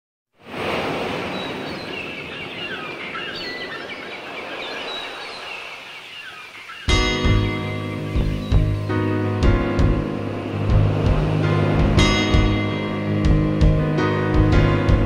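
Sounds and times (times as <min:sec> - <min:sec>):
birds chirping: 0:01.0 - 0:15.0.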